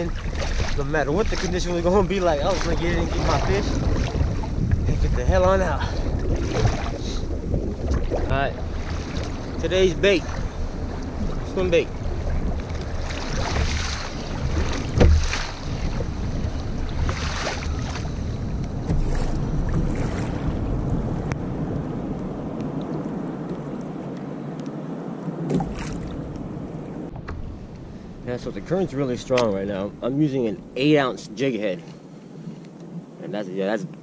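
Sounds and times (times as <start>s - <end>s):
choppy sea water: 0.0s - 34.0s
wind buffeting microphone: 0.0s - 34.0s.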